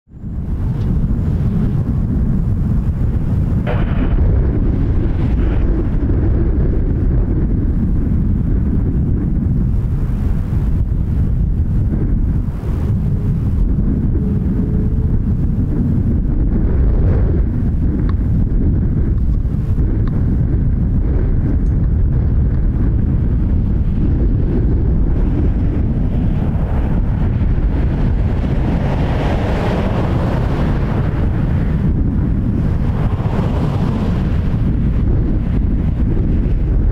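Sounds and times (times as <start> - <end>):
wind buffeting microphone: 0.0 - 36.9
aircraft engine whoosh: 0.2 - 22.0, 22.6 - 36.9.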